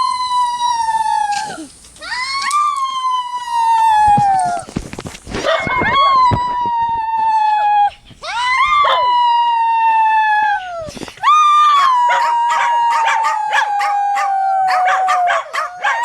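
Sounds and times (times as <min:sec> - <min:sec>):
dog howling: 0:00.0 - 0:04.7, 0:05.4 - 0:16.0.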